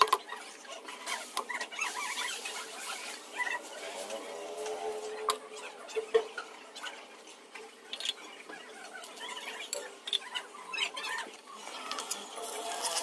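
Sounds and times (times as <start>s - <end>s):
food crackling over wood fire: 0.0s - 13.0s.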